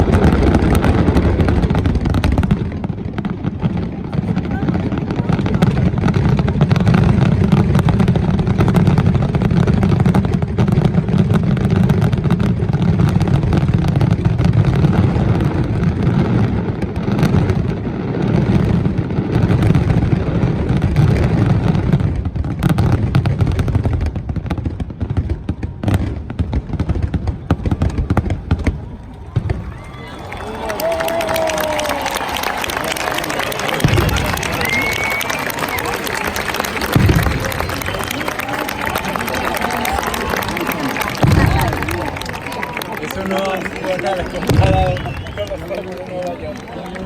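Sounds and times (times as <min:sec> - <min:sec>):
aerial fireworks bangs: 0:00.0 - 0:29.8, 0:33.0 - 0:42.8.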